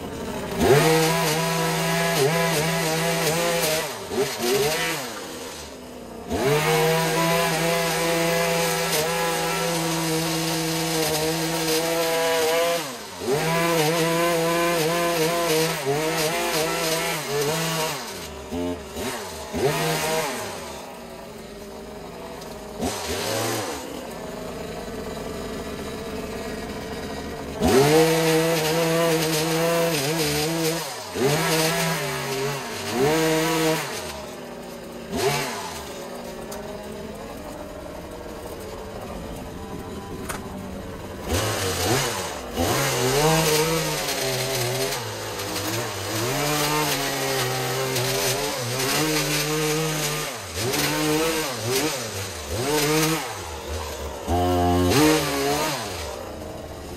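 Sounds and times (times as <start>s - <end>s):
small petrol engine revving: 0.0s - 56.9s.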